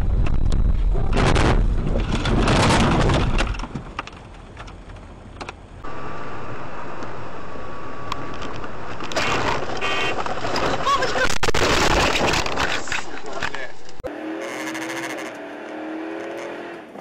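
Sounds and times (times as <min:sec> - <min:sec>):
car engine and road noise: 0:00.0 - 0:11.4, 0:12.5 - 0:17.0.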